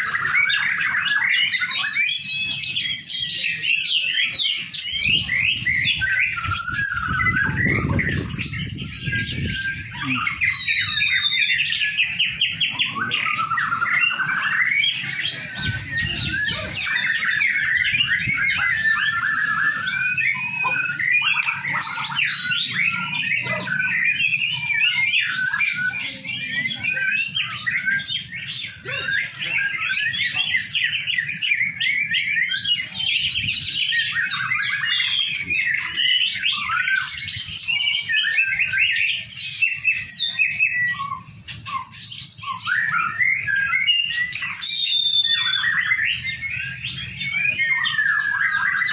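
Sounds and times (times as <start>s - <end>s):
songbirds singing and chirping: 0.0s - 48.9s.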